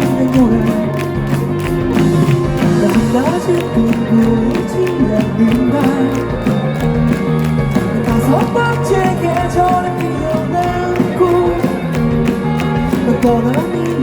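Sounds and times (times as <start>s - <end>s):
melodic guitar line: 0.0s - 14.0s
rock band playing live: 0.0s - 14.0s
steady drum beat: 0.0s - 14.0s.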